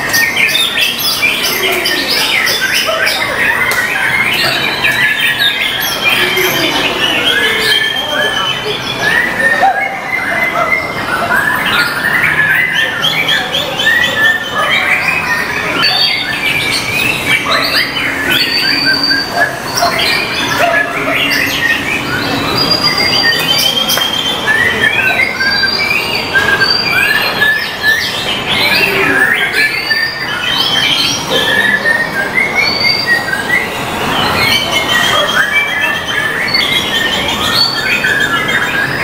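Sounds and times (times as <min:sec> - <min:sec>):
songbird whistling and chirping: 0:00.0 - 0:39.0.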